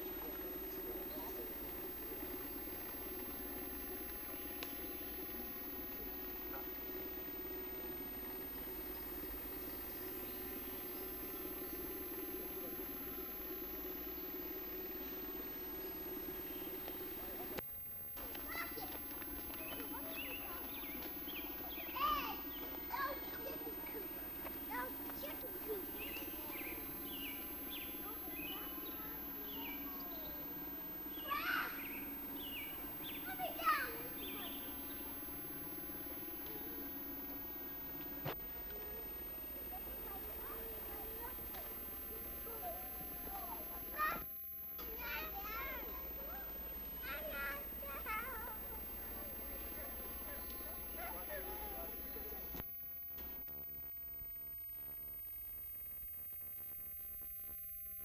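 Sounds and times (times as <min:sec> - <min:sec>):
small birds chirping: 0:00.0 - 0:52.7
mechanical hum with flutter: 0:00.0 - 0:58.0.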